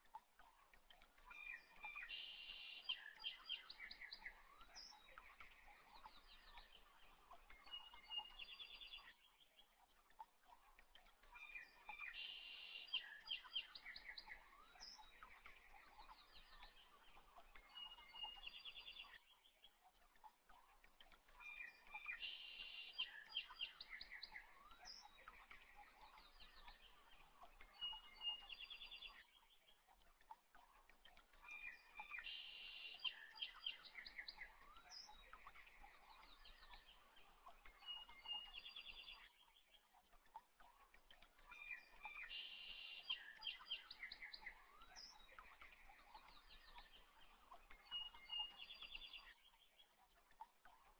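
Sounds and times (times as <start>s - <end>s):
faint birds chirping: 0.0s - 50.9s.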